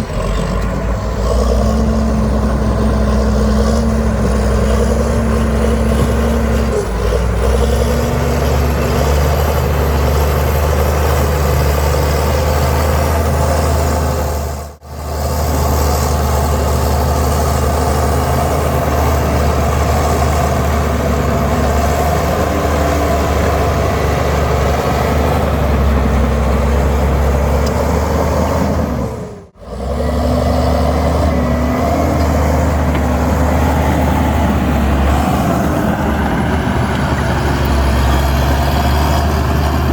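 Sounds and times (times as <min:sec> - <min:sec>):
heavy diesel machinery droning: 0:00.0 - 0:39.9.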